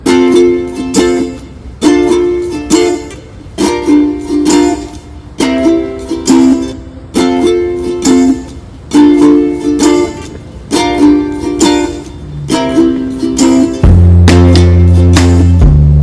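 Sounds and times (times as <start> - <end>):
strummed string instrument: 0.0 - 16.0.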